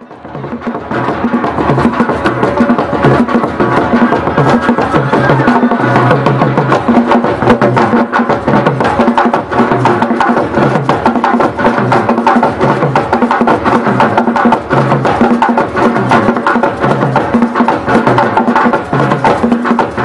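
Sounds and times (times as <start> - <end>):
drums beating: 0.0 - 20.0.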